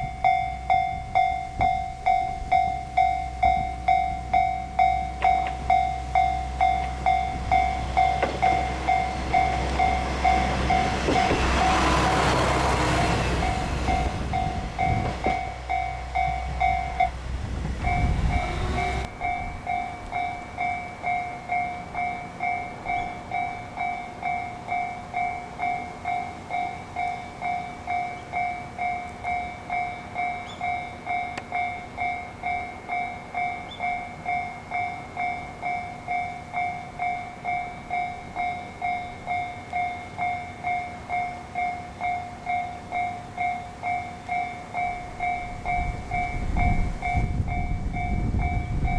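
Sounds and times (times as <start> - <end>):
level-crossing warning bell: 0.0 - 48.9
train rumble: 0.0 - 48.9.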